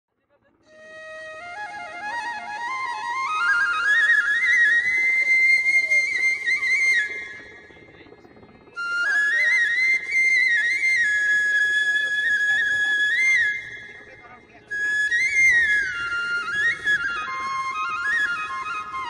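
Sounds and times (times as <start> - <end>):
flute melody: 0.6 - 7.9, 8.6 - 19.0.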